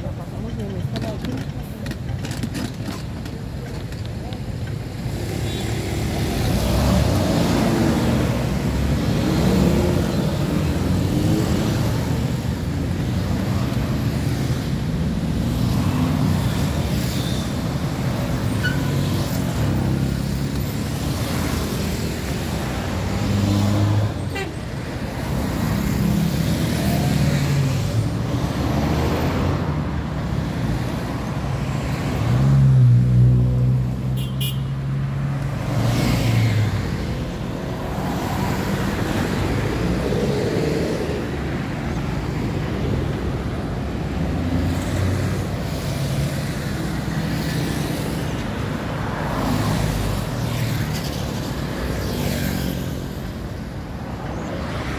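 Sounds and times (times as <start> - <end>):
highway traffic: 0.0 - 54.9.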